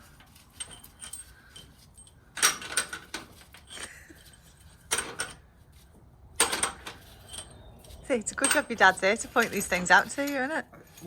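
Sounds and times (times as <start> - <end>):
metal tools clinking and clattering: 0.2 - 5.4, 6.4 - 11.0.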